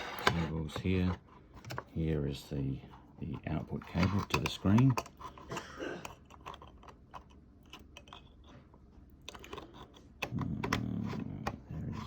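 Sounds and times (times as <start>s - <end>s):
cables clicking and rustling: 0.2s - 12.0s.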